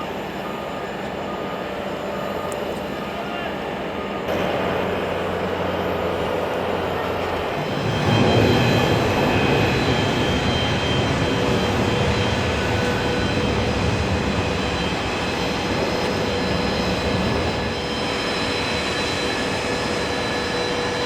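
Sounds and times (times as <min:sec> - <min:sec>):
jet engines rushing and whining: 0:00.0 - 0:21.0.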